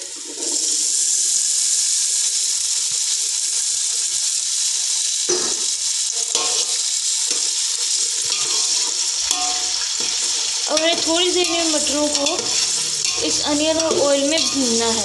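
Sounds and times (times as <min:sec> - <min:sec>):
peas sizzling in hot oil: 0:00.0 - 0:15.0.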